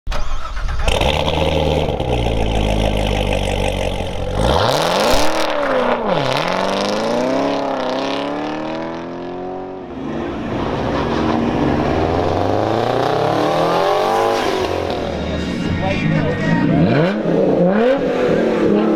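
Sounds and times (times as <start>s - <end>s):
car engine accelerating: 0.1s - 18.9s.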